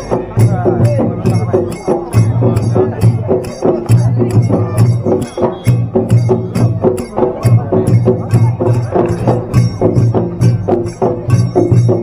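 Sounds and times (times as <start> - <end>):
bright percussion strokes: 0.0 - 12.0
deep drum pulsing: 0.0 - 12.0
traditional folk music: 0.0 - 12.0.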